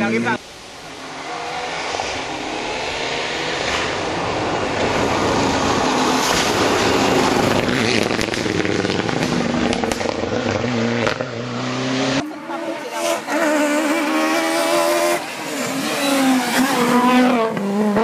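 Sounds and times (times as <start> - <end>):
rally car engine passing: 0.0 - 18.0.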